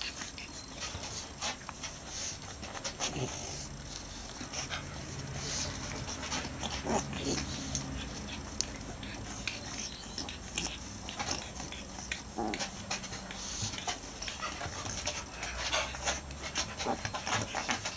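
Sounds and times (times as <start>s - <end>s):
puppy grunts: 0.0s - 17.9s.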